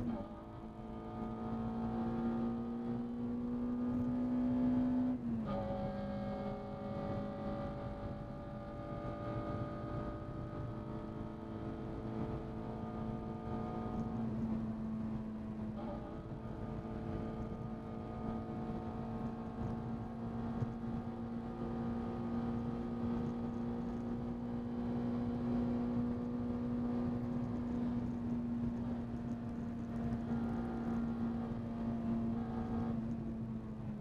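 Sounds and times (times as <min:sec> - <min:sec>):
car engine droning: 0:00.0 - 0:34.0.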